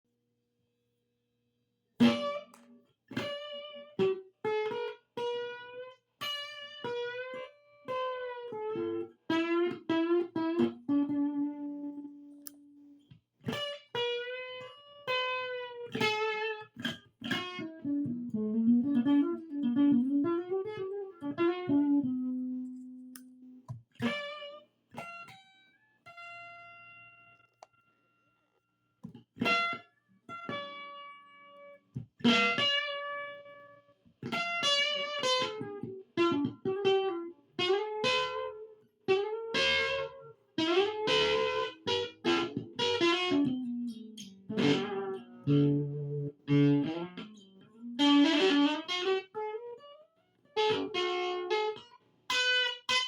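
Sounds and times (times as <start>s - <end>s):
plucked guitar melody: 2.0s - 27.8s, 29.0s - 53.0s.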